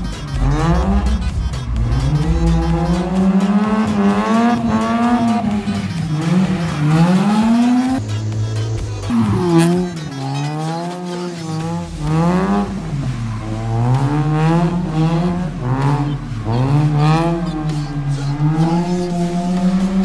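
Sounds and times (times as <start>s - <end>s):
rotary engine revving: 0.0s - 20.0s.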